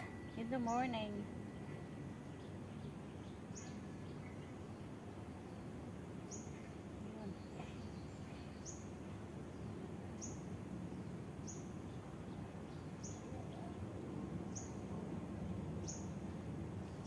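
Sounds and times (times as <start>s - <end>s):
bird chirping: 0.0s - 17.0s
faint low background noise: 0.0s - 17.0s.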